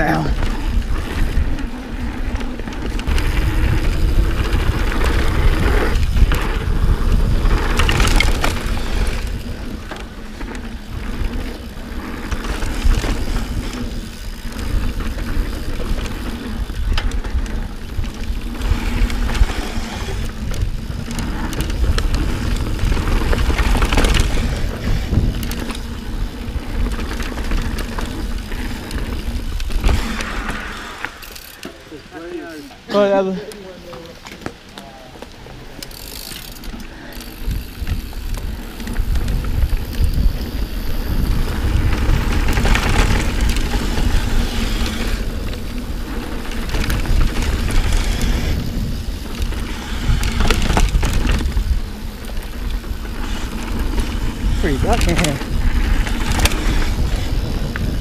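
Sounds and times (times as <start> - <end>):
wind on microphone: 0.0 - 31.2, 37.3 - 58.0
bike rattling over bumps: 0.0 - 58.0
tyres rolling over dirt: 0.0 - 58.0.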